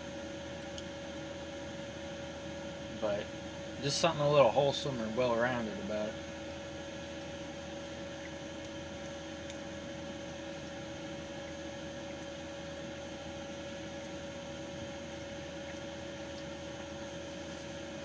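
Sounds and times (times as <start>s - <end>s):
truck cab mechanical hum: 0.0s - 18.0s.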